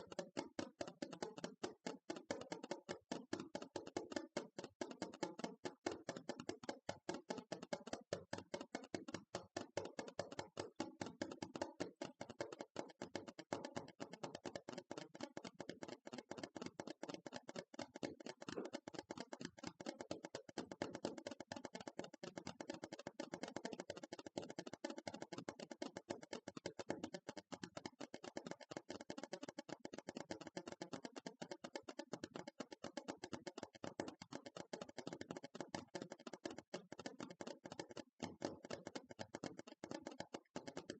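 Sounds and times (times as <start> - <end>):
fast tapping on hard object: 0.0 - 40.9.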